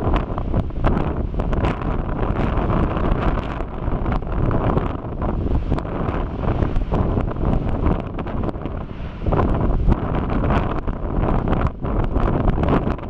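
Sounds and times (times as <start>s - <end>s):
lava crackles and pops: 0.0s - 13.0s
lava lake rumbling: 0.0s - 13.0s.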